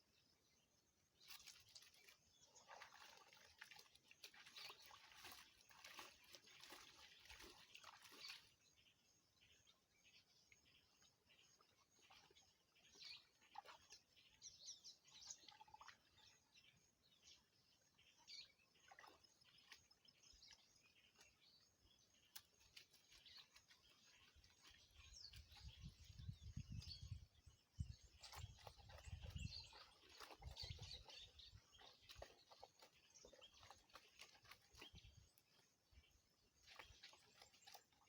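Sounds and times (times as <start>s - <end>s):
faint birds chirping: 0.0s - 38.0s.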